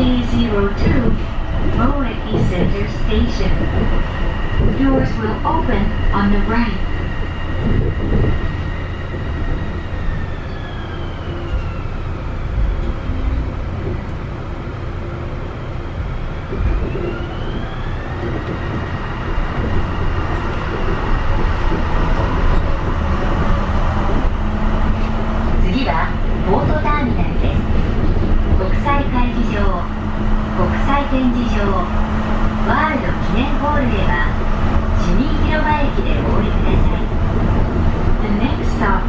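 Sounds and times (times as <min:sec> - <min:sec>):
train running rumble: 0:00.0 - 0:39.0.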